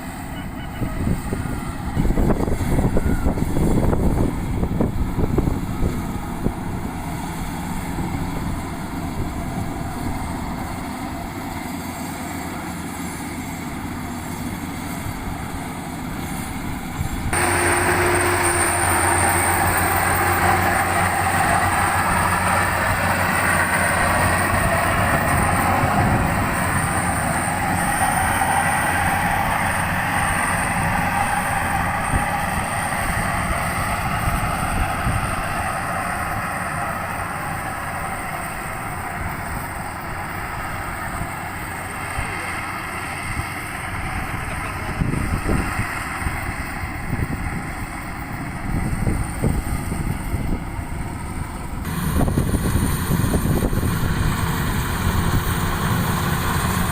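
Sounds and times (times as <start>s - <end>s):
combine harvester rumbling clatter: 0.0s - 56.9s.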